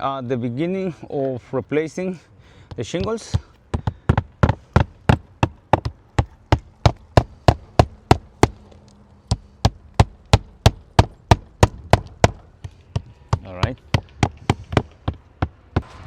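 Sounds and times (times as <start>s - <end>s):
nails driven into roof shingles: 2.6s - 16.0s.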